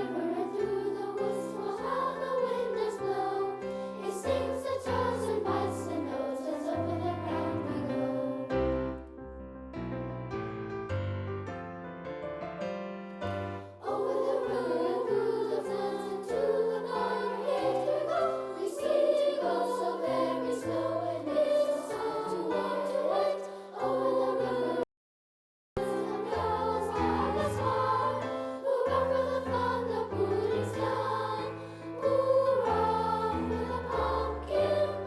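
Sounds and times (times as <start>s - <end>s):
children's choir singing: 0.0s - 9.0s, 13.8s - 24.9s, 25.8s - 35.0s
piano accompaniment: 0.0s - 24.8s, 25.8s - 35.0s.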